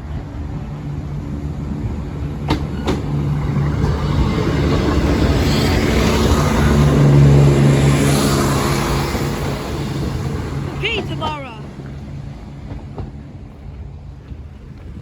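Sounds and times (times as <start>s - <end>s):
train engine hum: 0.0s - 15.0s
train wheel noise: 0.0s - 15.0s.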